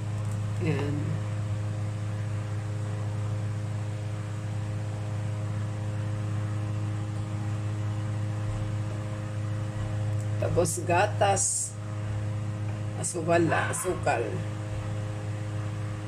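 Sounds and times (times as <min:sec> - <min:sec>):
kitchen exhaust fan humming: 0:00.0 - 0:16.0.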